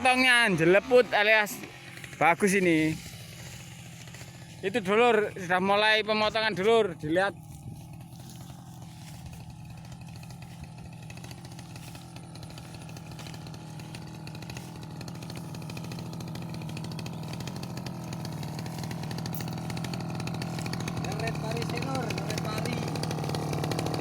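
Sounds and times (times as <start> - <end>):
brush cutter engine running: 0.0 - 24.0.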